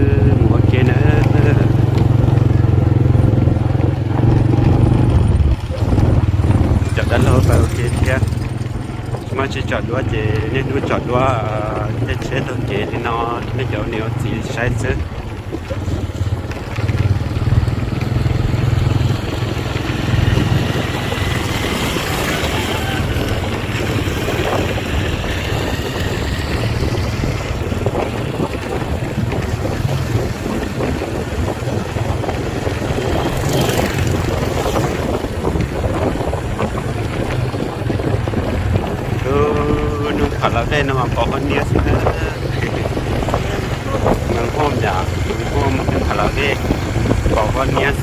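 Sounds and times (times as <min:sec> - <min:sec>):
vehicle engine and road rumble: 0:00.0 - 0:48.0
wind buffeting microphone: 0:00.0 - 0:48.0.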